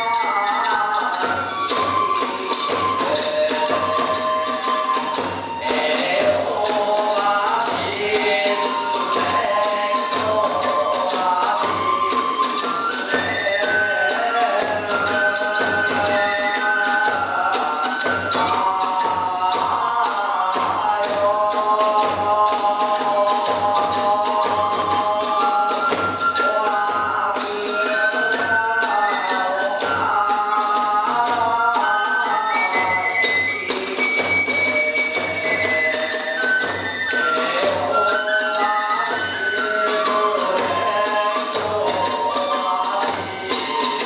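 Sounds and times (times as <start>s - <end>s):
bamboo flute melody: 0.0s - 44.0s
drum keeping steady beat: 0.0s - 44.0s.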